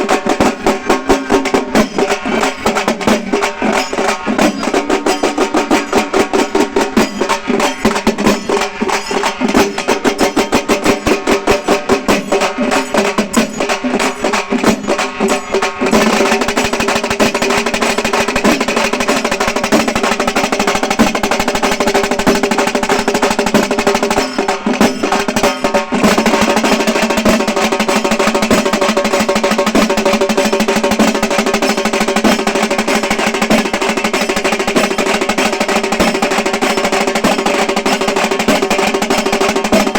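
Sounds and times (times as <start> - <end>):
frame drums beaten with sticks: 0.0 - 39.9.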